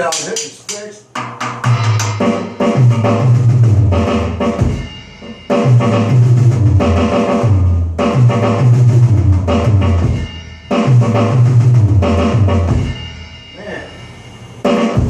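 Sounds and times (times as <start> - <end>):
electronic drums bass and toms: 1.2 - 13.5.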